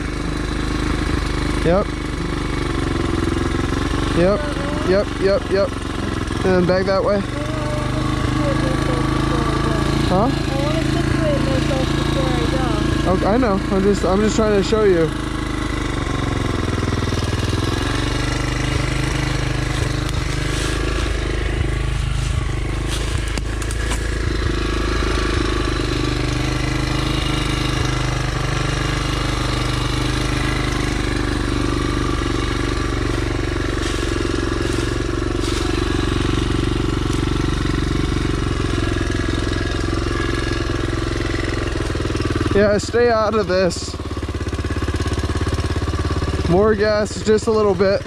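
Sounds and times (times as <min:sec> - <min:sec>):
dirt bike engine running: 0:00.0 - 0:48.0.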